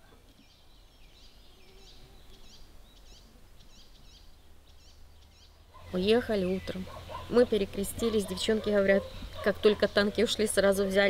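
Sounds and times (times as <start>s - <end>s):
faint outdoor ambience: 0.0s - 11.0s
small bird chirping: 0.2s - 10.2s.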